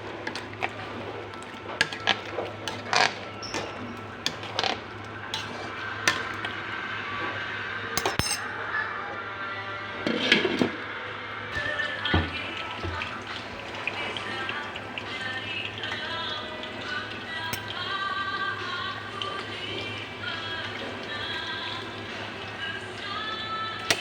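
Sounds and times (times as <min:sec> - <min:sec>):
kitchen utensils clinking: 0:00.2 - 0:06.5, 0:08.0 - 0:08.6, 0:11.6 - 0:24.0.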